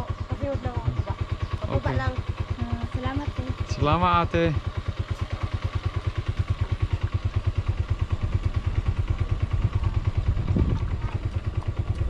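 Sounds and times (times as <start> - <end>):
small motorcycle engine puttering: 0.0 - 12.0.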